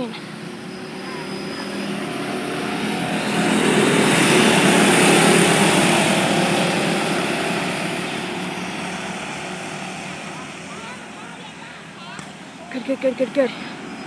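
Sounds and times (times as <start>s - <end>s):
small race car engines: 0.0s - 14.0s.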